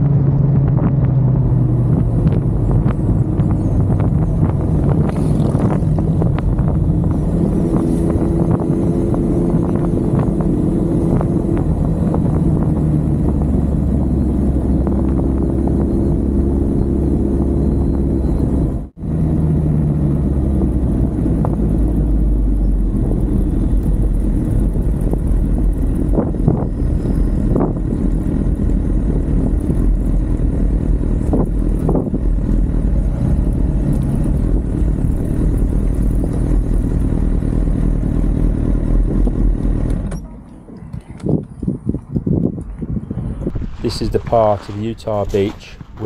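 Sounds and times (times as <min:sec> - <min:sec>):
motorcycle engine rumbling: 0:00.0 - 0:46.0.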